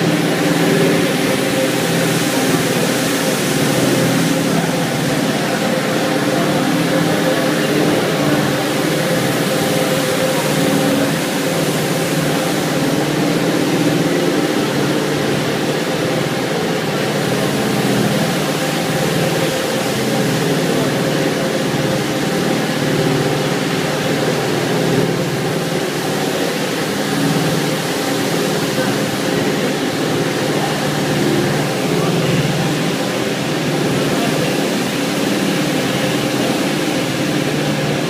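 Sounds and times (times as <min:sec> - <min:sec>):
carpet washing machine drone: 0:00.0 - 0:38.0.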